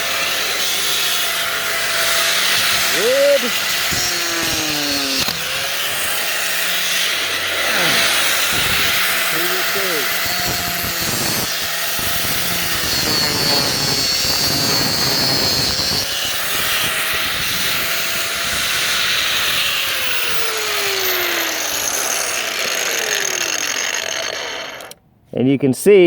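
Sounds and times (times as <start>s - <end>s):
angle grinder cutting plastic: 0.0s - 25.0s.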